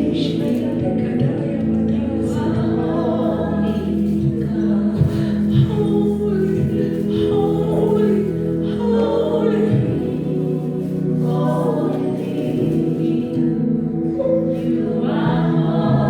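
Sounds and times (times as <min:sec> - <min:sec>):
gospel choir singing: 0:00.0 - 0:16.0
musical accompaniment: 0:00.0 - 0:16.0.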